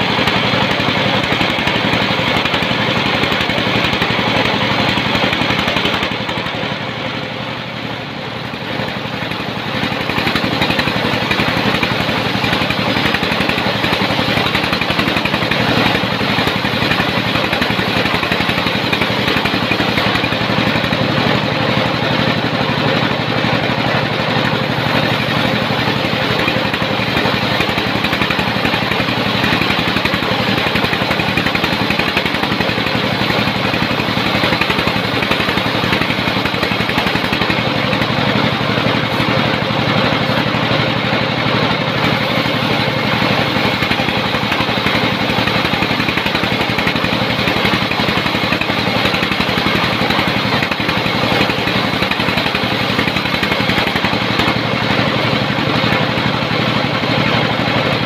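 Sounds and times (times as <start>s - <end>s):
sawmill mechanical din: 0.0s - 58.0s.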